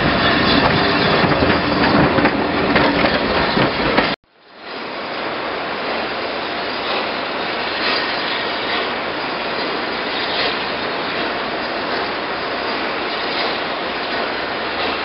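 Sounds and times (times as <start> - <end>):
steam locomotive roaring: 0.0 - 15.0.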